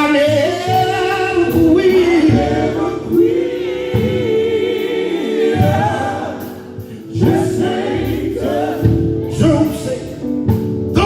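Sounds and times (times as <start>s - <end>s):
men singing in harmony: 0.0s - 10.3s
instrumental backing: 0.0s - 11.0s.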